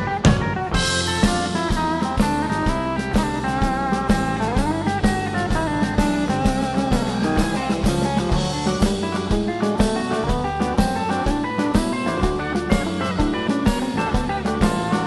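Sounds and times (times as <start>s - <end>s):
country band playing: 0.0s - 15.0s
guitar lead with sliding notes: 0.0s - 15.0s
steady drum beat: 0.0s - 15.0s.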